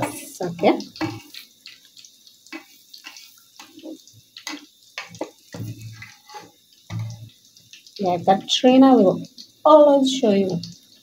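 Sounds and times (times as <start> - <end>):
dough deep-frying in oil: 0.0 - 11.0.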